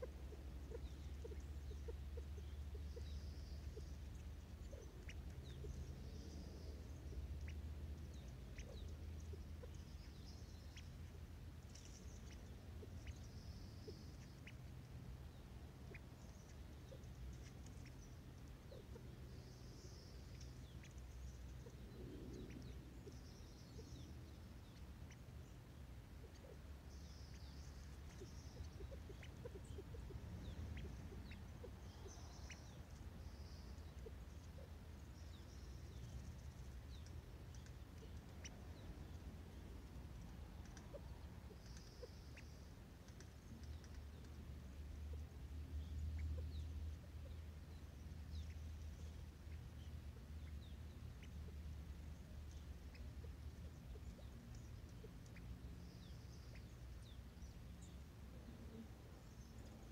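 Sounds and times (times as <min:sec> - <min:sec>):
quail pecking seed: 0:00.0 - 0:59.9
steady low rumble: 0:00.0 - 0:59.9.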